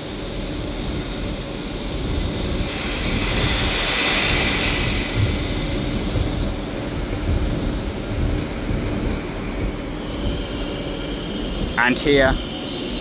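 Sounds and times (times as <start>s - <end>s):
passenger train rushing past: 0.0s - 13.0s.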